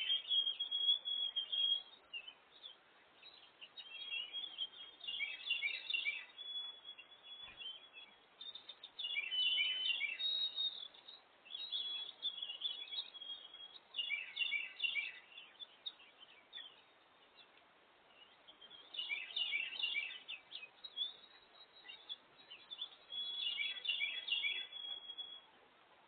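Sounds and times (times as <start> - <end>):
outdoor background hiss: 0.0 - 26.0
small songbirds chirping: 0.0 - 26.0.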